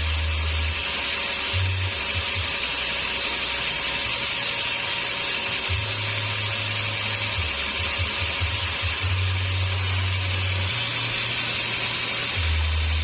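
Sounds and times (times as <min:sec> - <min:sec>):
sawmill saw hissing: 0:00.0 - 0:13.0.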